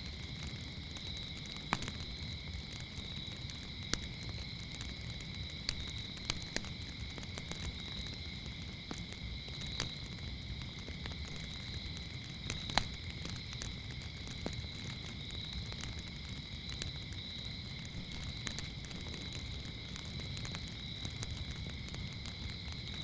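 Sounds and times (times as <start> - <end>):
crickets trilling: 0.0 - 23.0
wood fire crackling and popping: 0.0 - 23.0.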